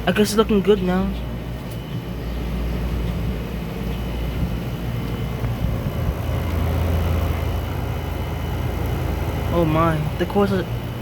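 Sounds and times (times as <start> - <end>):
air conditioner humming: 0.0 - 11.0
faint high whine: 0.0 - 11.0.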